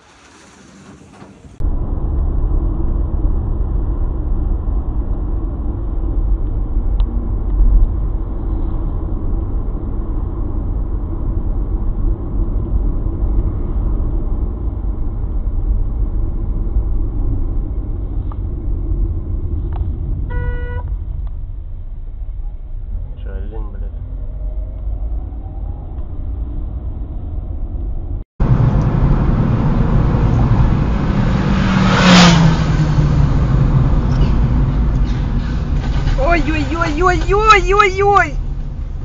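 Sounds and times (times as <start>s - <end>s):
car driving rumble: 0.0s - 39.0s.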